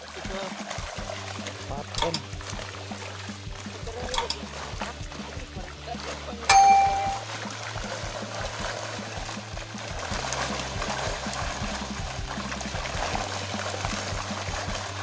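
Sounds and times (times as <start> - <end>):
background music: 0.0 - 15.0
fish thrashing and splashing water: 0.0 - 15.0.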